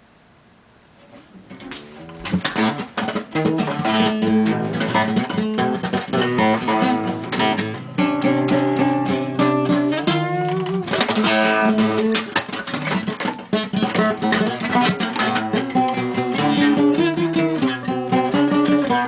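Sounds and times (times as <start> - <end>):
acoustic guitar plucking: 1.1 - 19.0.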